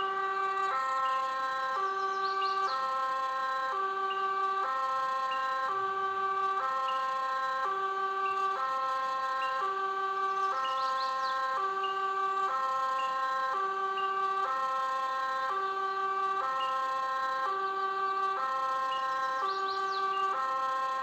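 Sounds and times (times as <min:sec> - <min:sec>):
two-tone siren: 0:00.0 - 0:21.0.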